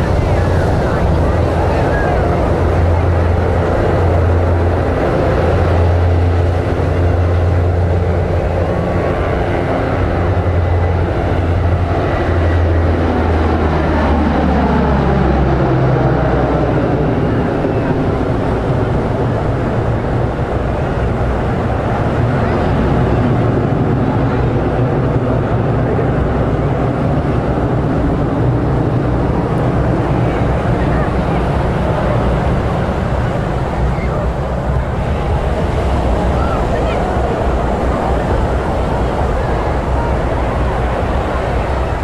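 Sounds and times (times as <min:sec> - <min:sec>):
aircraft passing: 0:00.0 - 0:42.0
steady low rumble: 0:00.0 - 0:42.0.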